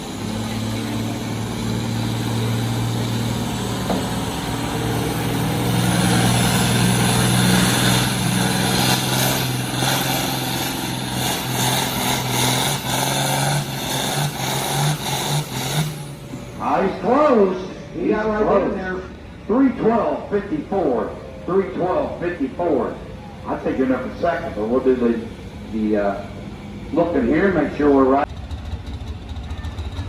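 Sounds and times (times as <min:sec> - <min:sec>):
tractor engine under load: 0:00.0 - 0:30.0.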